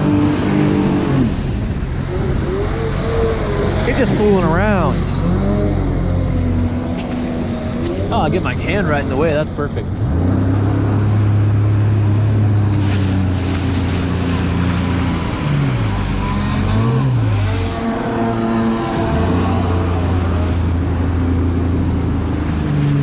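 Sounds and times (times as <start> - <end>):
jet ski engine: 0.0 - 23.0.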